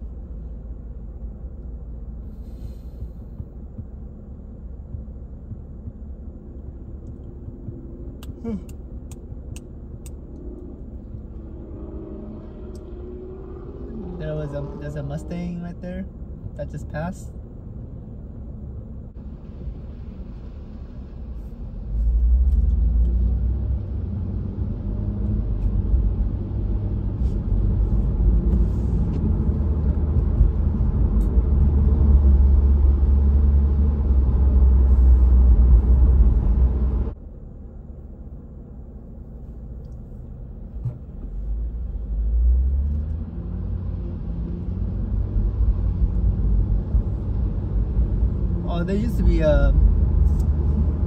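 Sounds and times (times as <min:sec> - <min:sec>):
car driving on wet road: 0:02.2 - 0:16.6, 0:17.8 - 0:37.2, 0:40.3 - 0:51.0.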